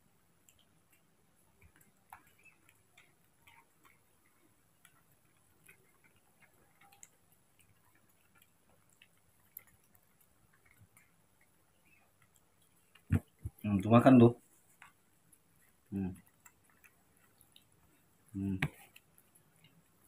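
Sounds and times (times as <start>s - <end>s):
baby monkey suckling bottle: 0.0s - 20.0s.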